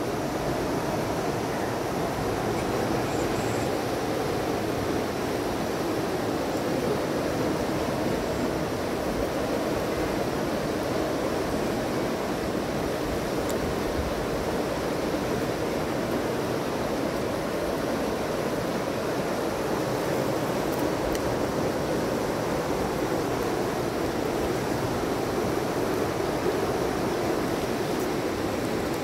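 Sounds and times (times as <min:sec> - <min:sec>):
river rushing over rapids: 0:00.0 - 0:29.0.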